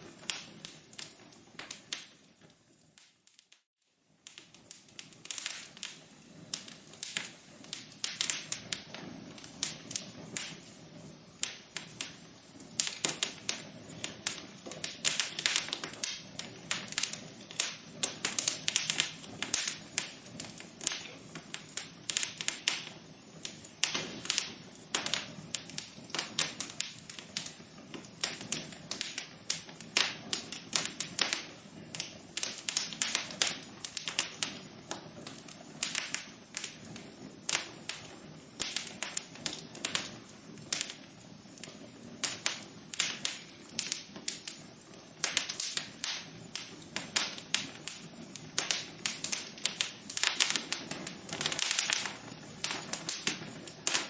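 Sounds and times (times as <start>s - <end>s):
soft hiss of burning: 0.0s - 54.0s
wood fire crackling and popping: 0.0s - 54.0s.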